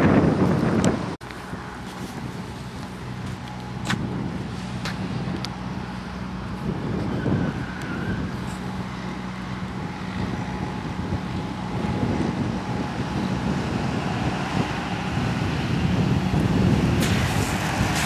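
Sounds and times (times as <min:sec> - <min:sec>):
bus diesel engine droning: 0:00.0 - 0:18.0.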